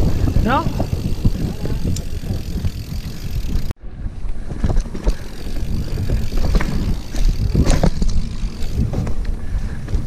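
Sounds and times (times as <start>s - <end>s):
bike knocking and rattling: 0.0s - 10.0s
bike tyres rumbling on dirt: 0.0s - 10.0s
wind buffeting microphone: 0.0s - 10.0s.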